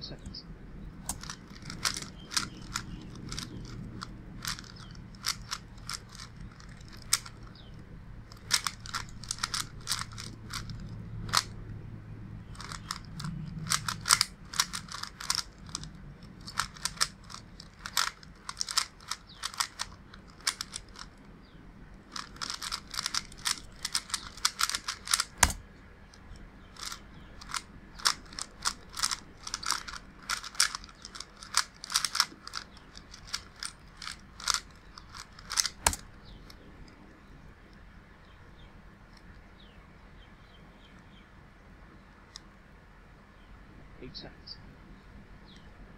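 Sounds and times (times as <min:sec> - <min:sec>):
puzzle cube clicking while turned: 0:01.0 - 0:37.8.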